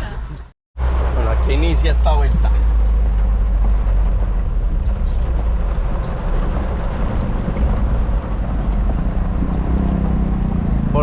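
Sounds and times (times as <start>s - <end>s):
loud engine and road rumble: 0.0s - 11.0s.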